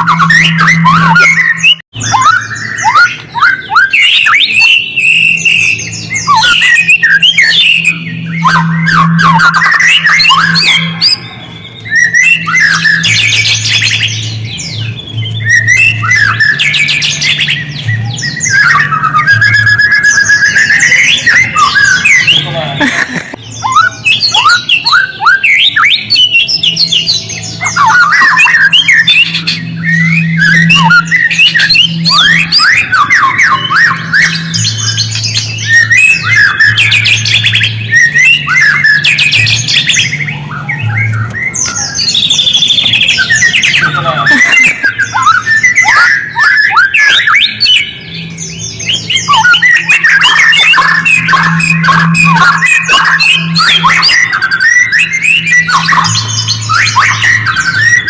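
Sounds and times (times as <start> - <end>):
songbird harsh chattering calls: 0.0 - 58.0.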